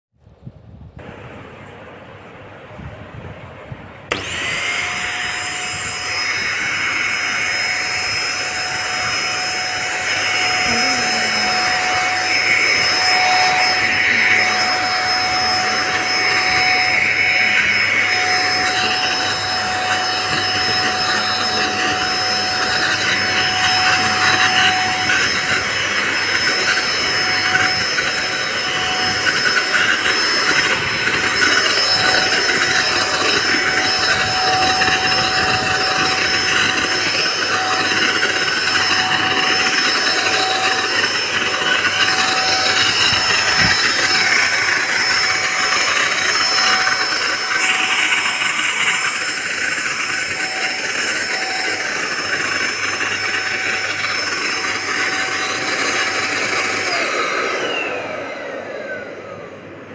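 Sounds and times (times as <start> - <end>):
handheld vacuum cleaner whining: 4.1 - 59.9.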